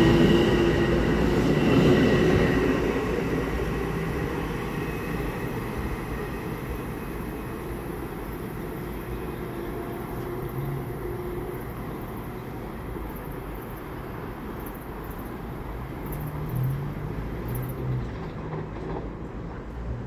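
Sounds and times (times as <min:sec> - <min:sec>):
distant train rumble: 0:00.0 - 0:20.0
traffic noise: 0:00.0 - 0:20.0.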